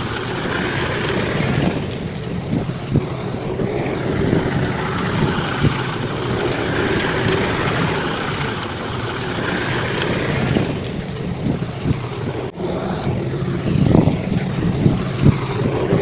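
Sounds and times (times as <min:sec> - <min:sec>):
bulldozer diesel engine: 0:00.0 - 0:16.0.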